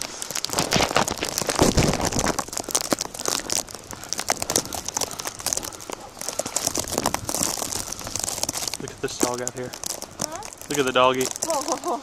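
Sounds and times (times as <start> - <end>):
footsteps crunching through snow: 0.0 - 12.0.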